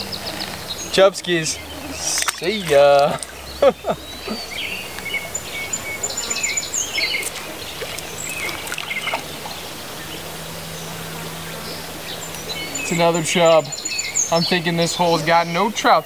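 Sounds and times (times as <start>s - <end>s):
outdoor hiss: 0.0s - 16.0s
songbirds chirping and trilling: 0.0s - 16.0s.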